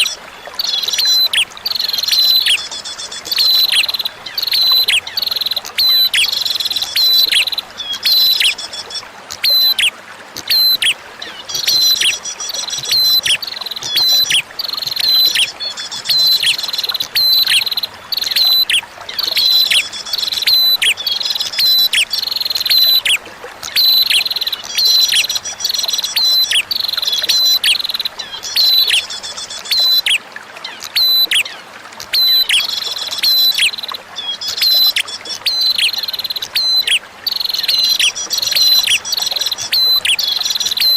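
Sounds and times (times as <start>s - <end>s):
bird song with buzzy trills: 0.0s - 40.9s
faint running water: 0.0s - 40.9s.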